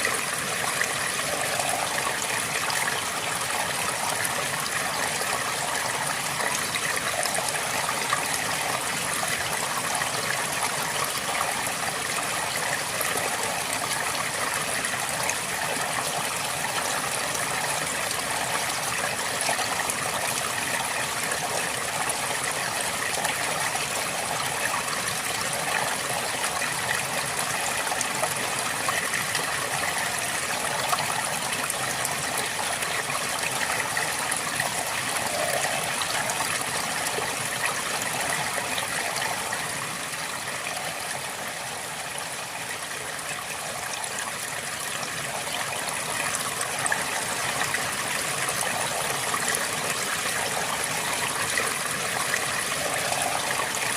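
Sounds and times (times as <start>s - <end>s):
river water flowing over stones: 0.0s - 53.9s.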